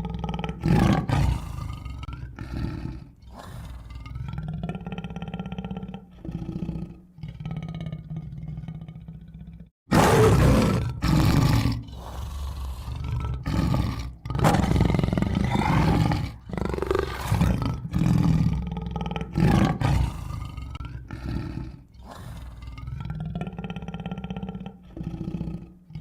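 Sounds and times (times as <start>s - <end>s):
tiger roaring and growling: 0.0s - 26.0s.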